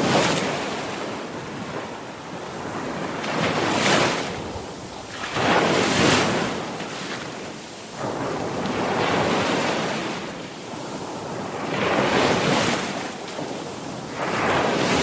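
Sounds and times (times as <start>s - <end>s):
sea waves surging: 0.0s - 15.0s.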